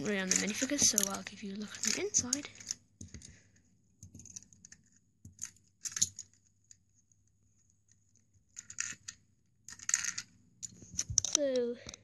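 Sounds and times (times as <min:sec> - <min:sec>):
plastic bricks clicking and rattling: 0:00.0 - 0:03.4, 0:04.0 - 0:06.8, 0:07.9 - 0:12.0.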